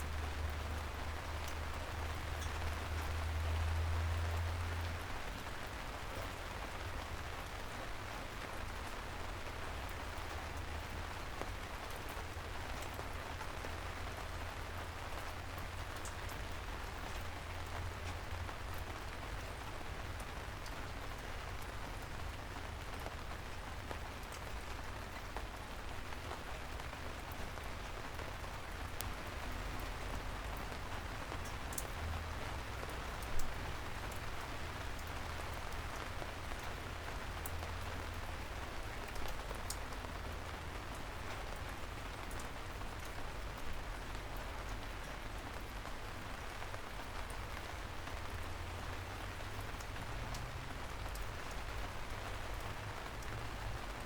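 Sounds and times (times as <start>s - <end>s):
light rain on street: 0.0s - 54.0s.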